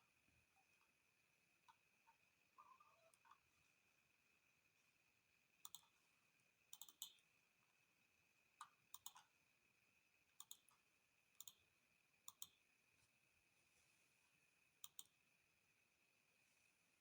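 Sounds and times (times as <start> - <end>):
faint high-pitched whine: 0.0 - 17.0.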